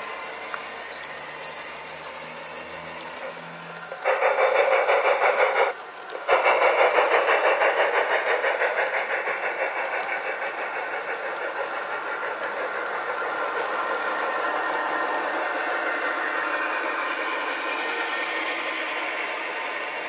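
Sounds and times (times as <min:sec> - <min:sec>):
model diesel train running: 0:00.0 - 0:20.0
model locomotive chuffing: 0:00.0 - 0:20.0
wheels rolling on rails: 0:00.0 - 0:20.0.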